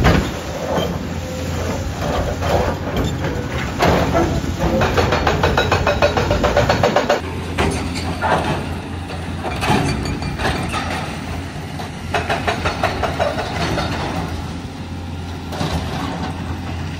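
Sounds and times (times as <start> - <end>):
demolition knocks and crashes: 0.0 - 14.5, 15.4 - 16.9
heavy diesel engine running: 0.0 - 16.9.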